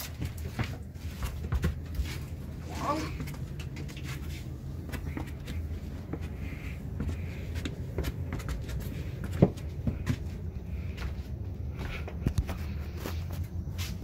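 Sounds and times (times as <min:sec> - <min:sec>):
footsteps on wooden floor: 0:00.0 - 0:14.0.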